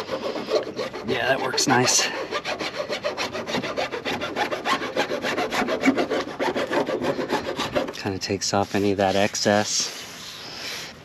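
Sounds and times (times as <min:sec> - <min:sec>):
hand file rasping: 0:00.0 - 0:11.0.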